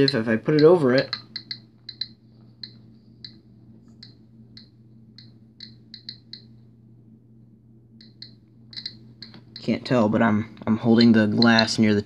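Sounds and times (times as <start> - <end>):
geiger counter clicking: 0.0 - 6.6, 8.0 - 10.0, 10.8 - 12.0.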